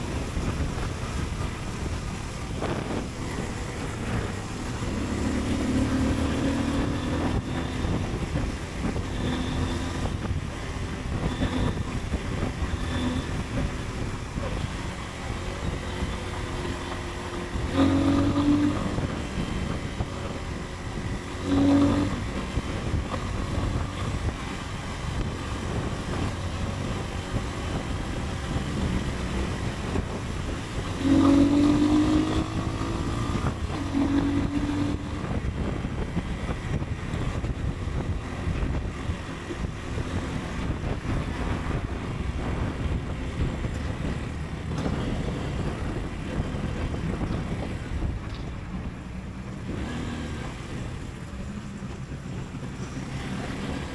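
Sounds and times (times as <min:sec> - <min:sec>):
motorcycle engine rumble: 0:00.0 - 0:53.9
wind rush on microphone: 0:00.0 - 0:53.9.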